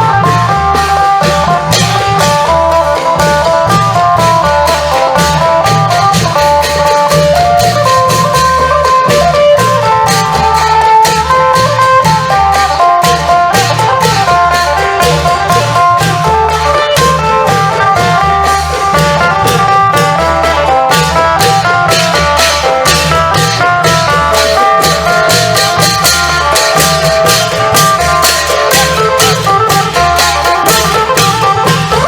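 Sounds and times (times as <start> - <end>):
long drums: 0.0 - 32.0
sharp percussion strokes: 0.0 - 32.0
plucked lute playing fast notes: 1.1 - 32.0.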